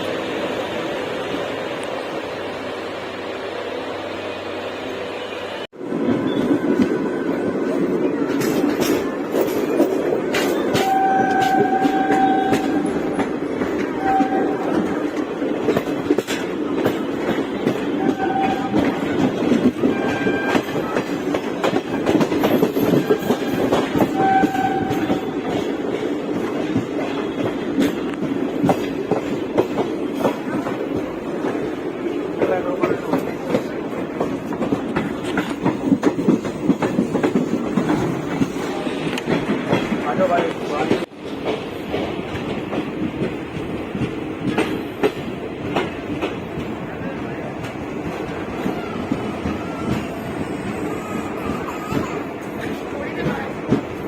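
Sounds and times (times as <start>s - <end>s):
train wheels clattering: 7.8s - 54.0s.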